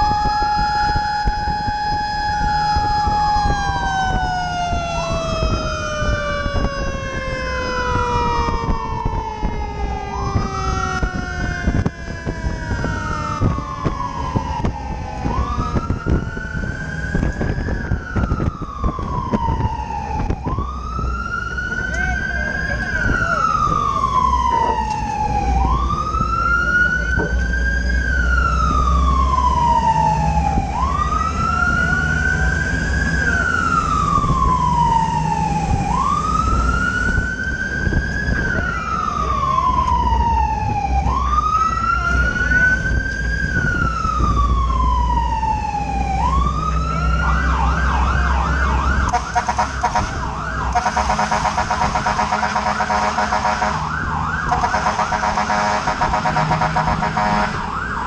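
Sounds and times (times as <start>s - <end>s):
fire truck siren: 0.0s - 58.0s
truck engine rumble: 0.0s - 58.0s.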